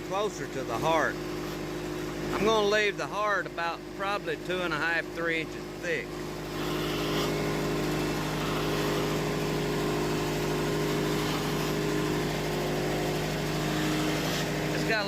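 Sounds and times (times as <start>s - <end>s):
sawmill band blade sawing: 0.0s - 3.5s, 4.1s - 15.0s.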